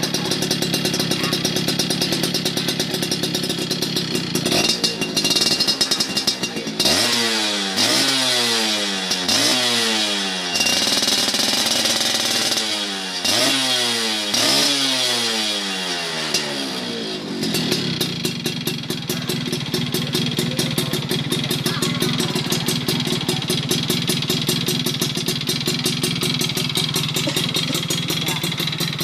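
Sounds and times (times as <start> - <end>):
two-stroke engine idling and revving: 0.0 - 29.0.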